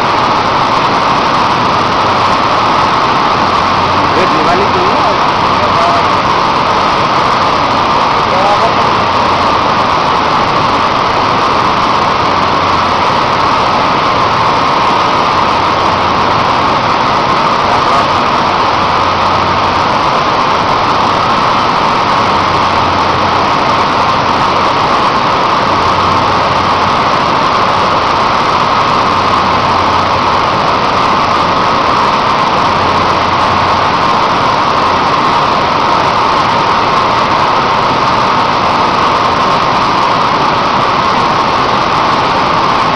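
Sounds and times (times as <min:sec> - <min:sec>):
loud machinery noise: 0:00.0 - 0:42.9.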